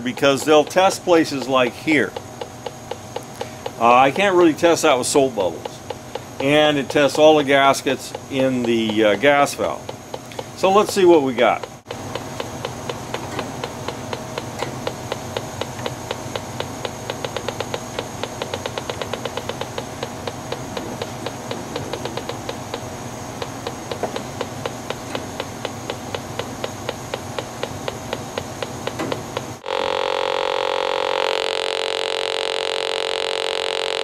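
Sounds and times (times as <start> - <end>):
gas leak detector ticking: 0.0 - 34.0.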